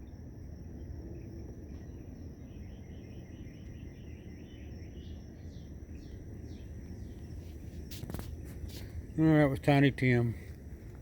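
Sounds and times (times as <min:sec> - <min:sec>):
cricket drone: 0:00.0 - 0:11.0
insect chirps: 0:00.0 - 0:11.0.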